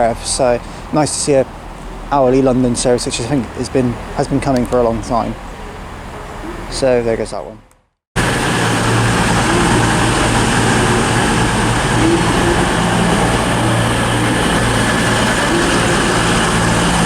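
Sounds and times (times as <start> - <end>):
diesel train engine drone: 0.0 - 7.5, 8.2 - 17.0.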